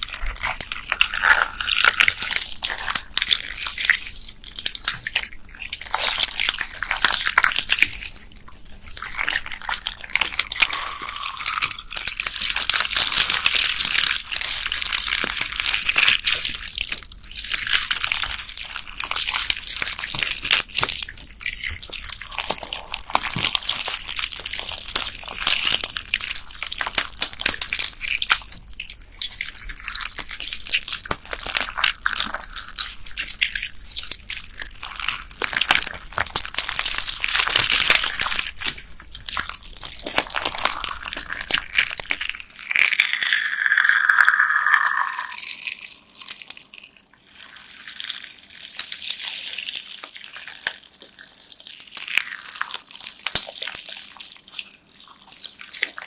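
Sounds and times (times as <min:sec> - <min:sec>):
beaded slime crackling: 0:00.0 - 0:56.0.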